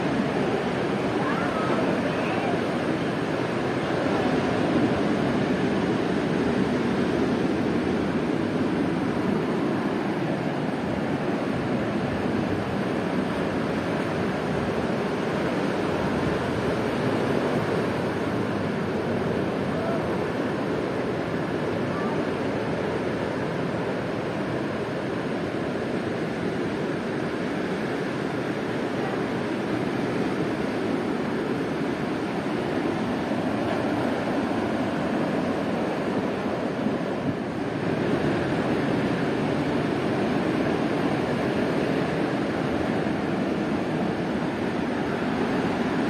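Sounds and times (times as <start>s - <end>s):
ocean surf washing on shore: 0.0s - 46.0s.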